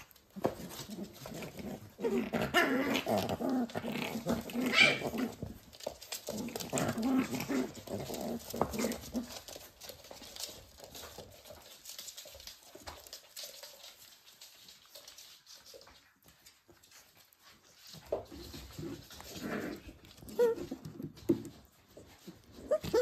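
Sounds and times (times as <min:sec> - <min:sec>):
claws clicking on floor: 0:00.0 - 0:23.0
puppies play-growling: 0:00.0 - 0:23.0.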